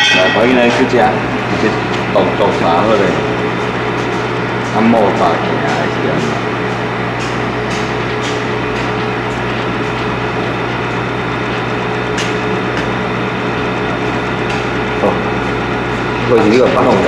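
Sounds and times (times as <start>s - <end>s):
welding machine humming: 0.0s - 17.0s.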